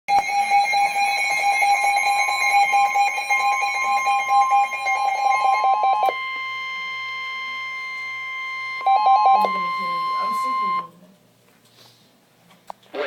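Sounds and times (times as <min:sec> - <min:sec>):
pulsing electronic alert beeps: 0:00.2 - 0:10.9
steady alert tone: 0:00.2 - 0:10.9.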